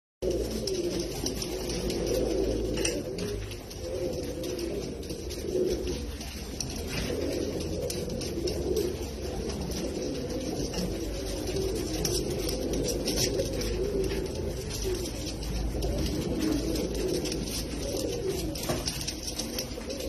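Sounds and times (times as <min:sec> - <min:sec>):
pigeon cooing: 0:00.2 - 0:20.0.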